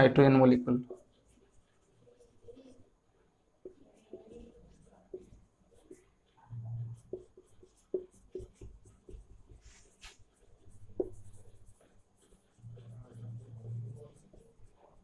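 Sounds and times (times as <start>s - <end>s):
marker pen writing on whiteboard: 0.0s - 15.0s.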